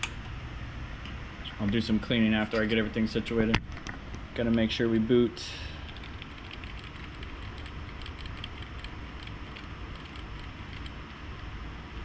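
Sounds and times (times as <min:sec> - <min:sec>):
computer cooling fans running: 0:00.0 - 0:12.0.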